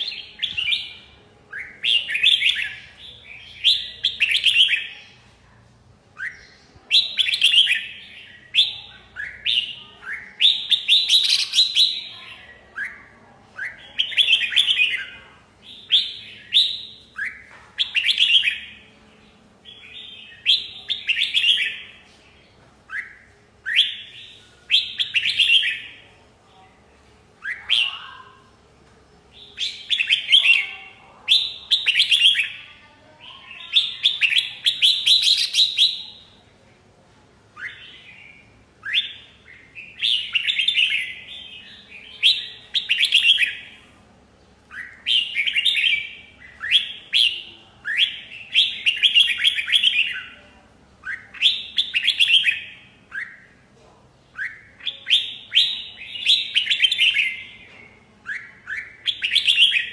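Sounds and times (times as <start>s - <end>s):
bulbul singing warbled phrases: 0.0s - 5.2s, 6.2s - 22.0s, 27.4s - 28.6s, 29.3s - 36.4s, 37.6s - 43.8s, 44.7s - 53.7s, 54.3s - 59.9s.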